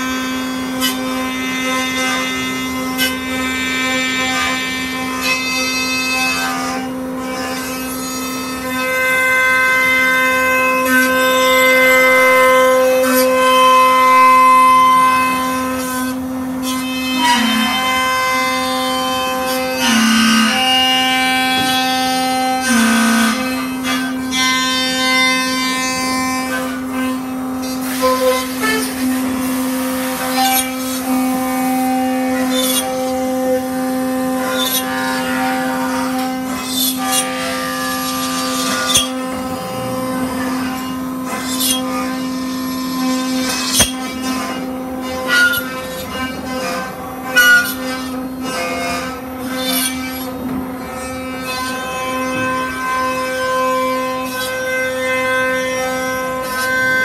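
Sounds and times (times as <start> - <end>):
router spindle whine: 0.0 - 57.0.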